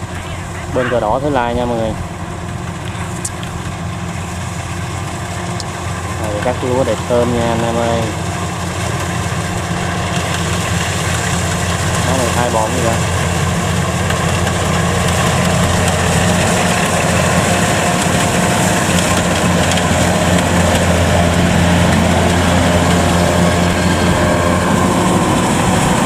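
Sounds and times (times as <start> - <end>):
combine harvester running: 0.0 - 26.0.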